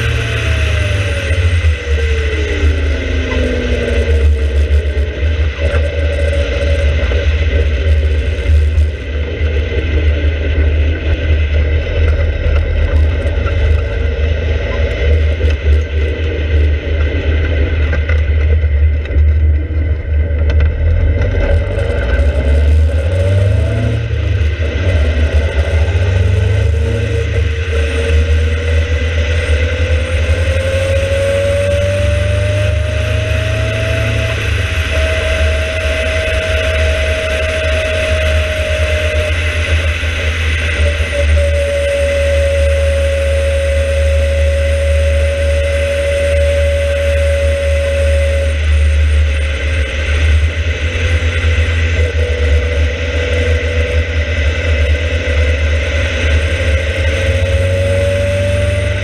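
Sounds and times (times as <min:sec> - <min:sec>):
sports car engine rumble: 0:00.0 - 0:59.0.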